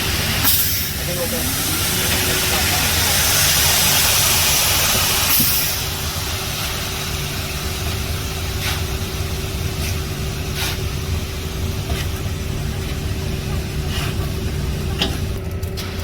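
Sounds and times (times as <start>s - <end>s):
loud rushing hiss: 0.0s - 13.9s
engine running with low hum: 0.0s - 16.0s.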